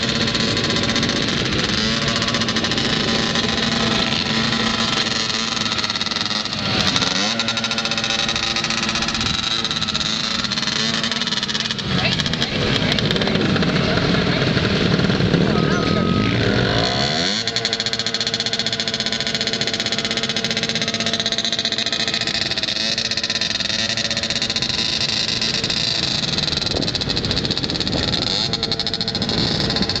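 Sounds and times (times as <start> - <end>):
quad engine running: 0.0 - 30.0.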